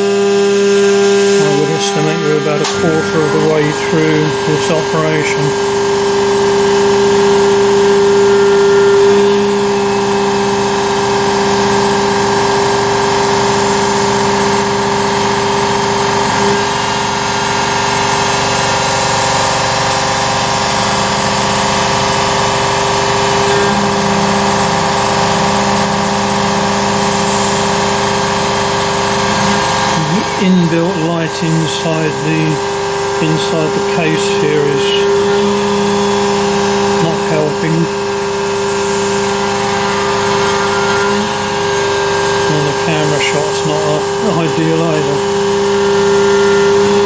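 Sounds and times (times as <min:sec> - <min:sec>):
cnc mill humming: 0:00.0 - 0:47.0.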